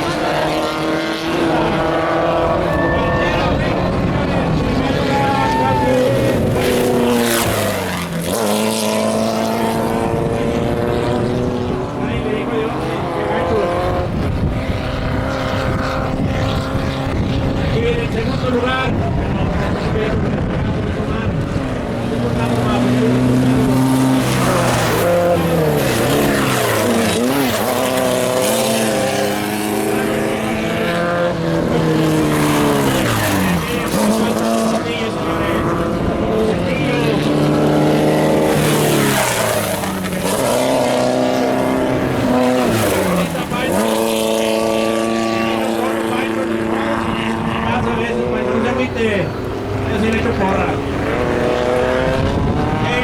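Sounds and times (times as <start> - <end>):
race vehicle engines running: 0.0 - 53.0
vehicle passing by: 0.0 - 53.0.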